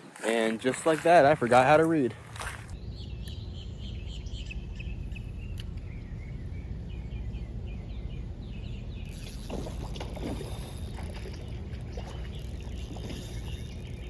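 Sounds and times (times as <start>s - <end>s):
small birds chirping: 2.7s - 14.0s.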